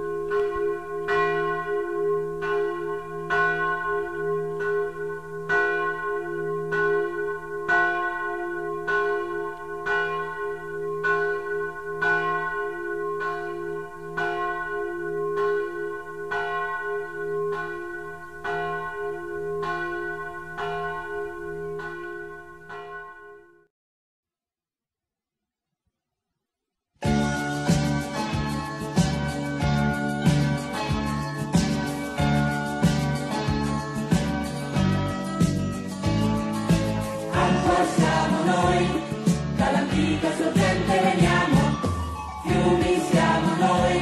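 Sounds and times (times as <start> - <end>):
church bells ringing: 0.0 - 23.7, 27.0 - 39.2.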